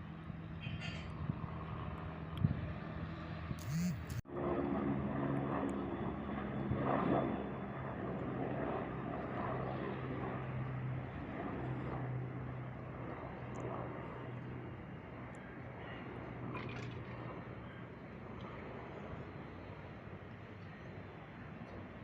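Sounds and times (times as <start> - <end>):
helicopter engine and rotor hum: 0.0 - 22.0.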